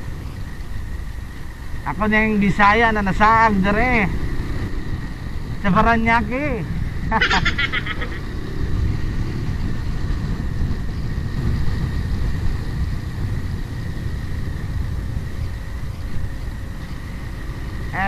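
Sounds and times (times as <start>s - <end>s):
motorcycle engine rumble: 0.0s - 18.0s
wind buffeting microphone: 0.0s - 18.0s.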